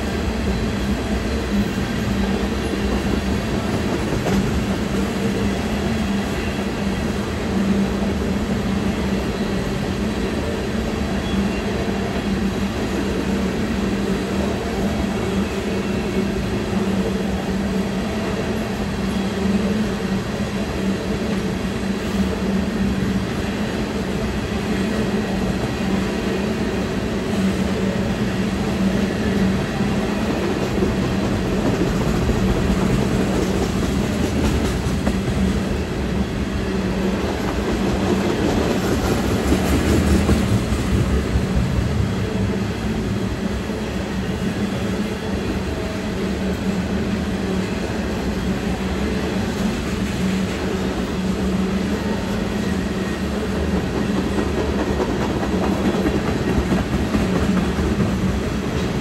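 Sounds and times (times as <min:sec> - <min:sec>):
freight train wheels on rail: 0:00.0 - 0:59.0.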